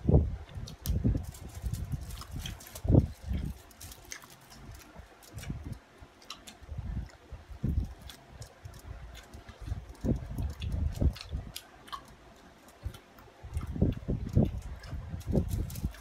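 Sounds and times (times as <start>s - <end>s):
people chewing: 0.5s - 16.0s.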